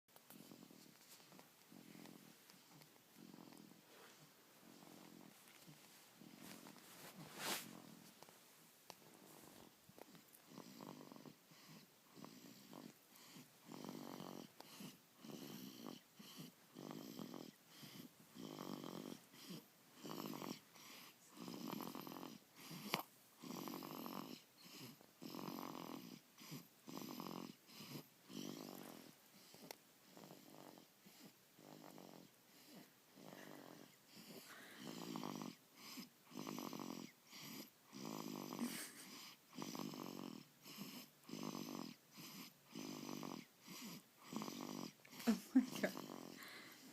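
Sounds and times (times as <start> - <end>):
quiet snoring: 0.2 - 46.9.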